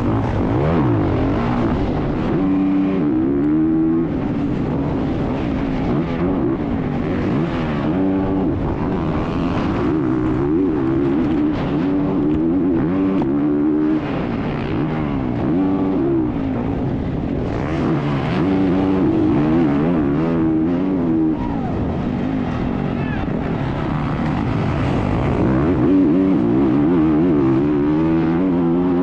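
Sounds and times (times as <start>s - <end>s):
dirt bike engine revving: 0.0s - 29.0s
steady rush of noise: 0.0s - 29.0s.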